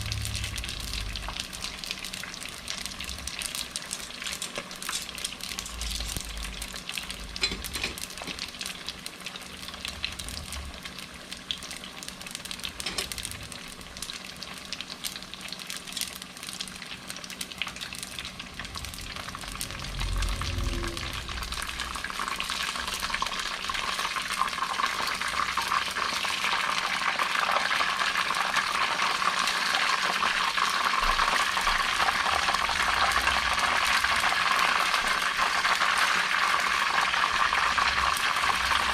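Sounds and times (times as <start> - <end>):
food deep-frying in hot oil: 0.0 - 38.9.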